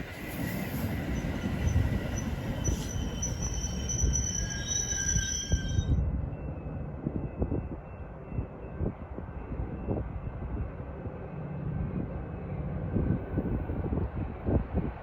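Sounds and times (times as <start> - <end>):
train rumbling by: 0.0 - 15.0.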